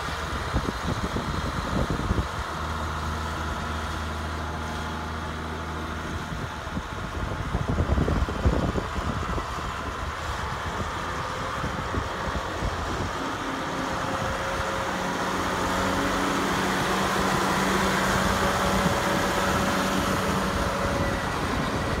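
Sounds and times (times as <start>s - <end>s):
tractor diesel engine: 0.0s - 22.0s.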